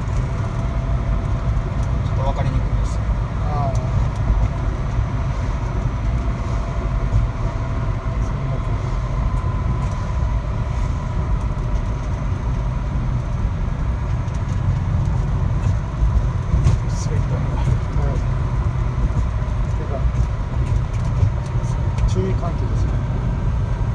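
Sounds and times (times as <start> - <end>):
vehicle rumble from on board: 0.0 - 23.9.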